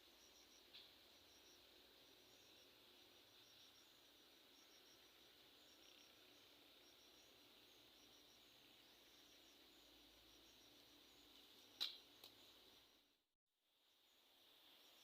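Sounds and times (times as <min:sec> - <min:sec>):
insects chirping in trills: 0:00.0 - 0:15.0.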